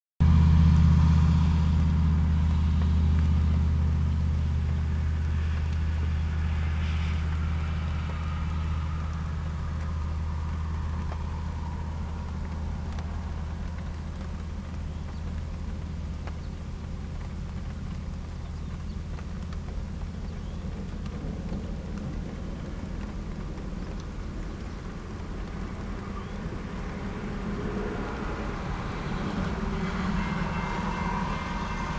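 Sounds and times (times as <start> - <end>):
faint falling whine: 0.2 - 31.9
low engine drone: 0.2 - 31.9.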